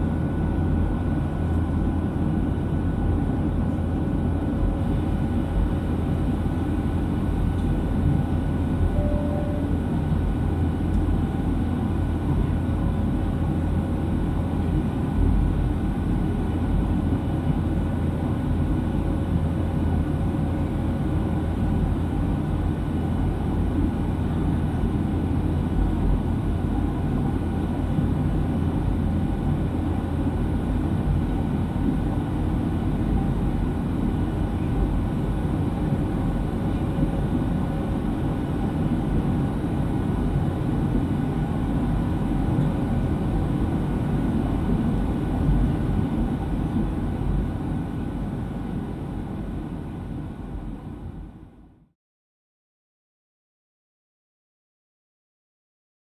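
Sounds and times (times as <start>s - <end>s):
airplane cabin drone: 0.0s - 52.0s.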